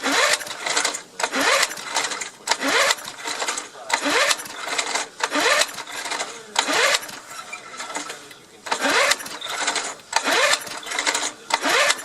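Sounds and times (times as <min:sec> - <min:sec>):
lawn mower engine cranking: 0:00.0 - 0:12.0
recoil starter rope pulls: 0:00.0 - 0:12.0.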